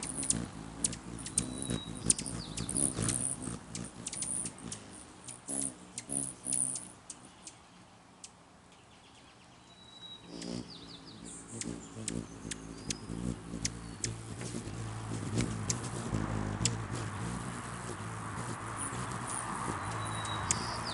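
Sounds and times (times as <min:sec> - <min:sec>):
low wing hum: 0:00.0 - 0:07.2, 0:10.3 - 0:20.9
bird twittering: 0:00.0 - 0:07.6, 0:09.7 - 0:18.1, 0:18.8 - 0:20.9
hummingbird chip calls: 0:00.0 - 0:07.6, 0:09.7 - 0:20.9.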